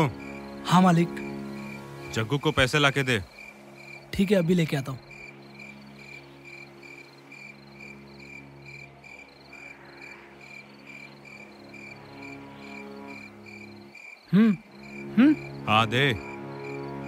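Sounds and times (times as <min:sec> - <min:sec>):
crickets chirping: 0:00.0 - 0:17.0
low music drone: 0:00.0 - 0:17.0.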